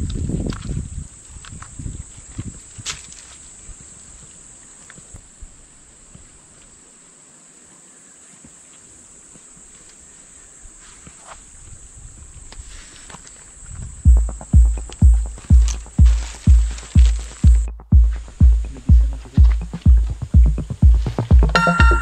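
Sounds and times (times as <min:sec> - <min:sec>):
high-pitched insect chorus: 0:00.2 - 0:21.2.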